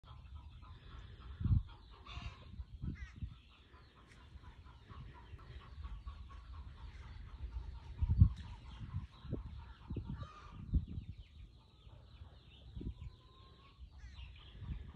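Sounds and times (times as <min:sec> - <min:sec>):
chickens clucking: 0:00.0 - 0:14.9.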